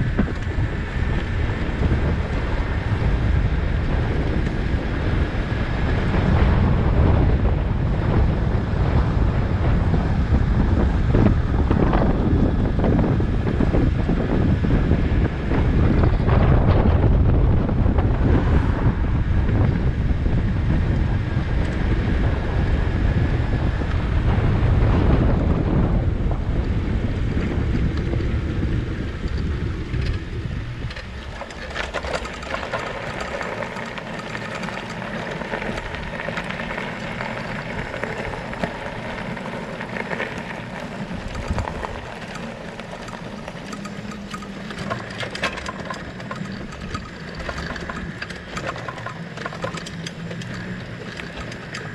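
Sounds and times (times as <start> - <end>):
bicycle tyre road noise: 0.0 - 51.9
wind buffeting microphone: 0.0 - 51.9.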